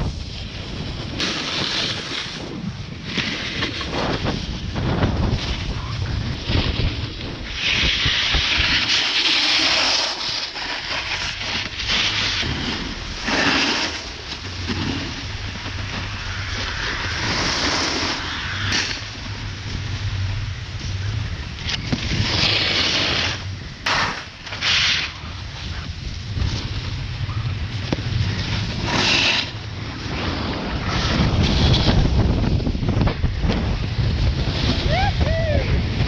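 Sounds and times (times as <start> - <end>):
snowboards scraping on snow: 0.0 - 36.0
wind rushing over microphone: 0.0 - 36.0.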